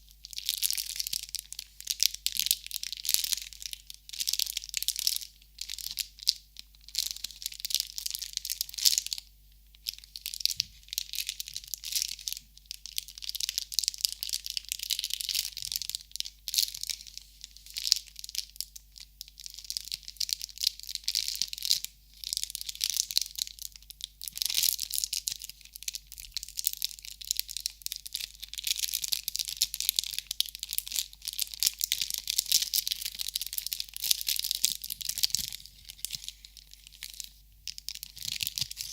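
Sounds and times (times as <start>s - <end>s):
crinkly material crackling: 0.0s - 38.9s.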